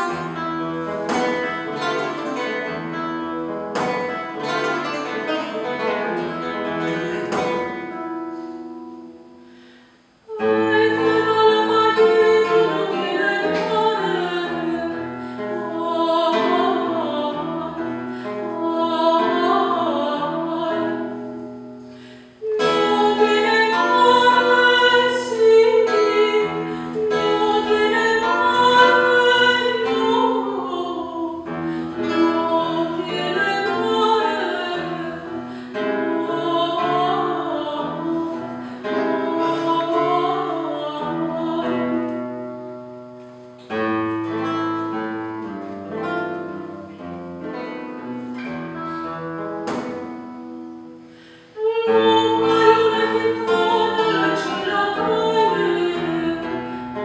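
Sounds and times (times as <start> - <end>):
soprano voice singing: 0.0 - 8.9, 10.3 - 21.8, 22.4 - 43.1, 43.7 - 57.0
classical guitar: 0.0 - 57.0.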